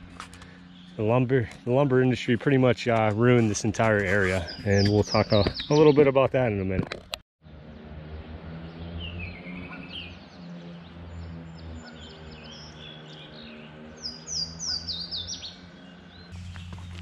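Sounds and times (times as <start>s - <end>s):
steady low hum: 0.0s - 5.4s, 7.5s - 17.0s
songbirds singing: 0.0s - 6.3s, 7.5s - 17.0s.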